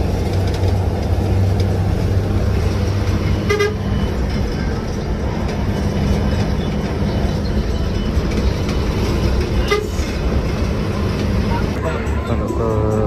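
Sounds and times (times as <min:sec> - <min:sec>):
bus diesel engine running: 0:00.0 - 0:13.0
road noise: 0:00.0 - 0:13.0.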